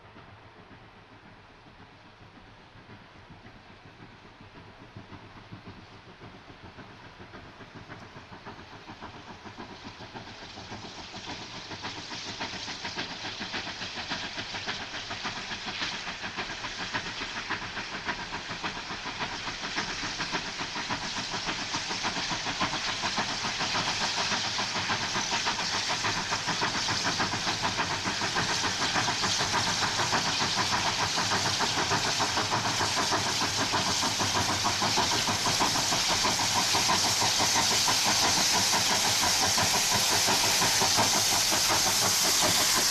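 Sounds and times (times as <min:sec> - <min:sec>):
steam locomotive approaching: 0:00.0 - 0:42.9.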